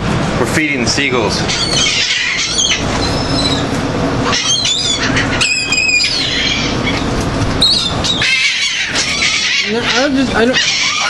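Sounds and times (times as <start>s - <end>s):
seagulls calling: 1.0s - 11.0s.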